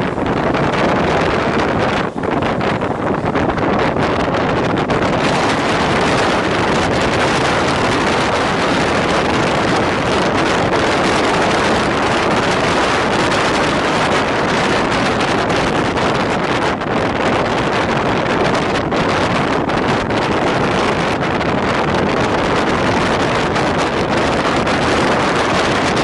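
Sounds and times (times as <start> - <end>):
moving train running noise: 0.0 - 26.0
wind buffeting microphone: 0.0 - 26.0.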